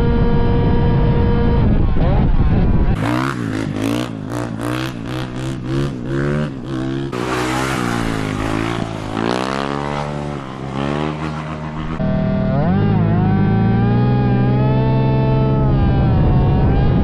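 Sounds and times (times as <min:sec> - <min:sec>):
motorcycle engine revving: 0:01.4 - 0:17.0.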